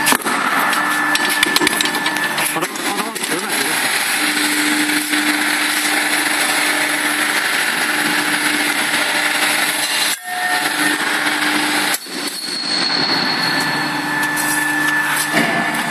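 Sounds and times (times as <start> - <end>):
pipe bending machine humming: 0.0 - 15.9.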